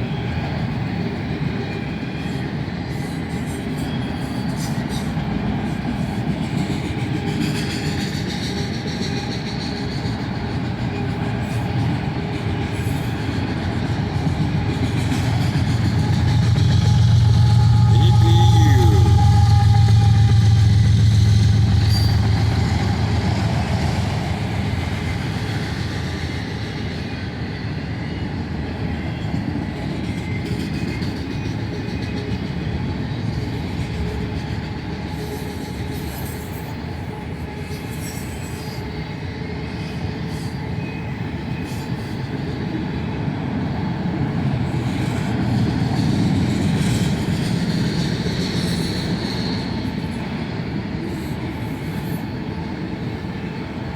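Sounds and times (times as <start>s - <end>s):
train wheels clattering on rails: 0.0s - 18.0s, 18.6s - 53.9s
diesel locomotive engine drone: 0.0s - 53.9s.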